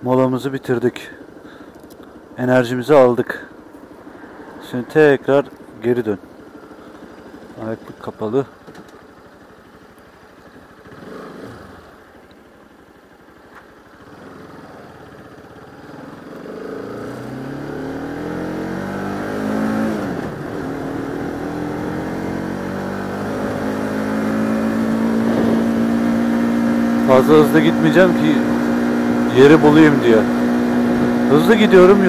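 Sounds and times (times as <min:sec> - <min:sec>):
motorcycle engine revving: 0:01.1 - 0:32.0.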